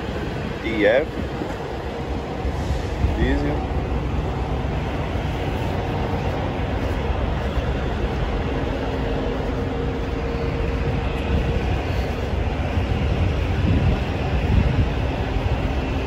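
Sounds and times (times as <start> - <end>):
diesel trucks idling: 0.0 - 16.0.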